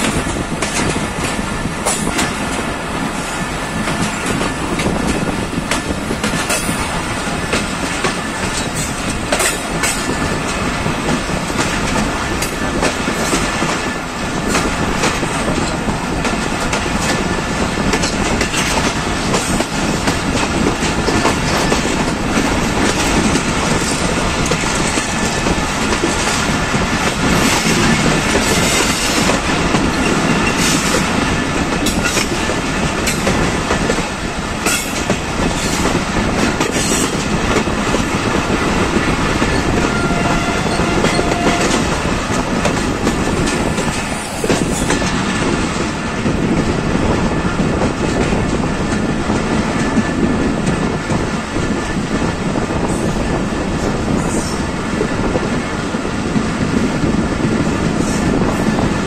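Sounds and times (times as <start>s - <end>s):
steel wheels running on rail: 0.0s - 59.0s.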